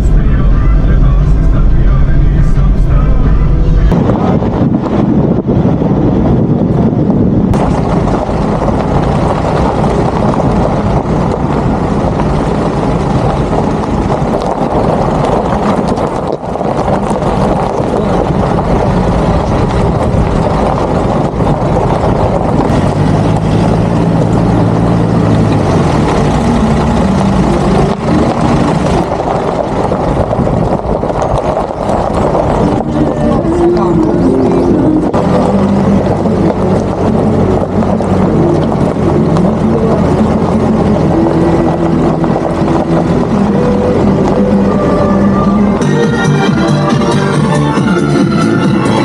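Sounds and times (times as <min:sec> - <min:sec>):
vehicle driving on gravel: 0:00.0 - 0:49.0.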